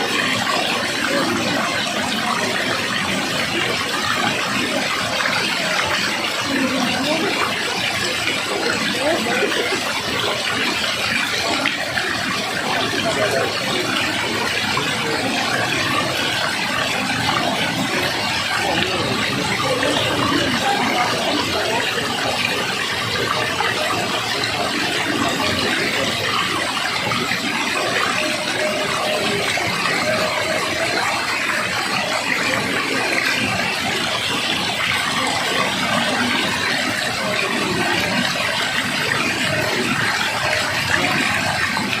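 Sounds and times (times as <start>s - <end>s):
water rushing: 0.0s - 42.0s.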